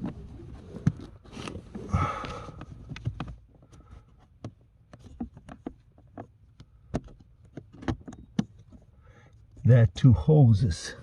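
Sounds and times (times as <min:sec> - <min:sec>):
rustling and scraping: 0:00.0 - 0:09.7.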